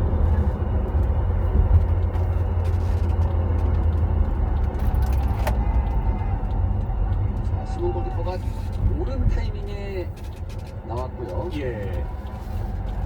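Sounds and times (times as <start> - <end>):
road and drivetrain rumble in car: 0.0 - 13.0.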